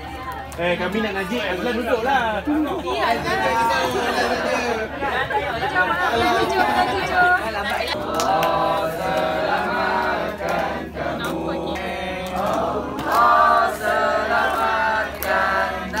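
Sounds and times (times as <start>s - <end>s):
group of voices singing: 3.0s - 16.0s.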